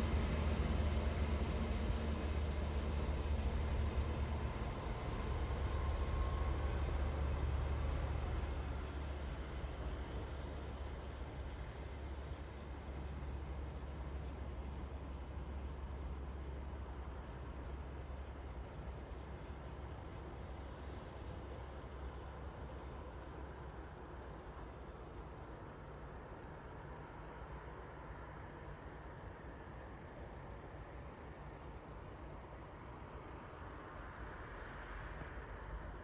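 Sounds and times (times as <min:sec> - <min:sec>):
diesel locomotive engine droning: 0:00.0 - 0:36.0.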